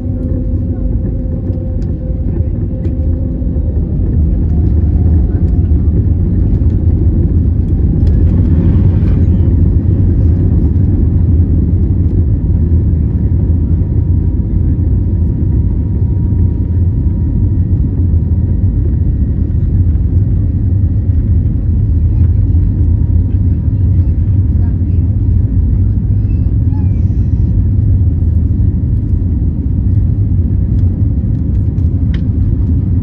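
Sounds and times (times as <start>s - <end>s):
faint engine whine: 0.0s - 33.0s
jet engines rumbling in cabin: 0.0s - 33.0s.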